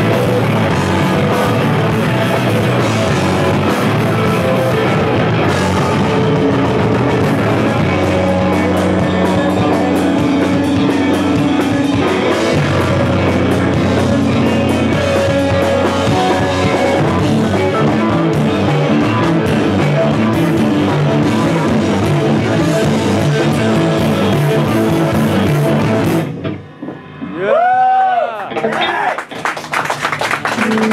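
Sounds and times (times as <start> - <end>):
live rock band playing: 0.0 - 27.7, 28.4 - 30.9.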